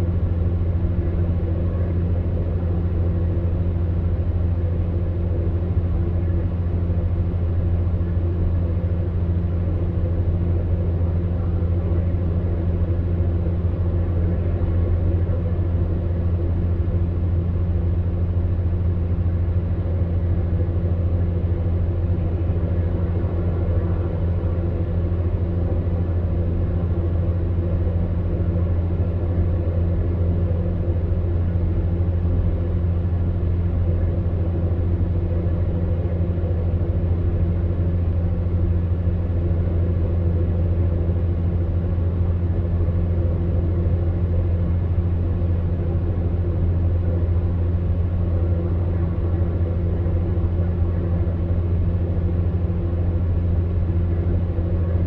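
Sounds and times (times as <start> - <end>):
fan heater humming and blowing: 0.0 - 55.0.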